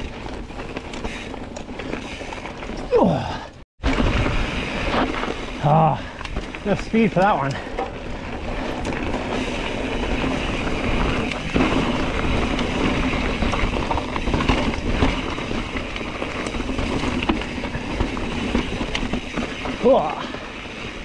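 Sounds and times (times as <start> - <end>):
bike rattling: 0.0 - 21.0
bike tyres rumbling on rock: 0.0 - 21.0.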